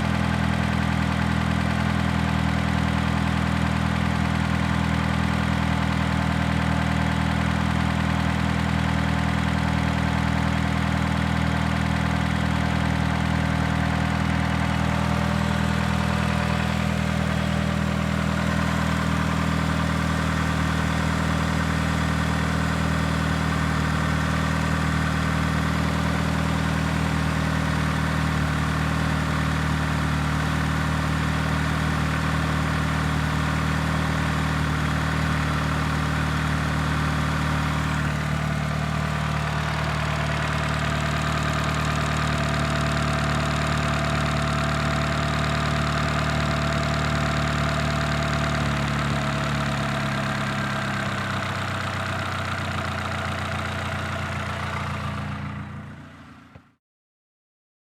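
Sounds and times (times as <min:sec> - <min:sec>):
car engine idling: 0:00.0 - 0:56.6.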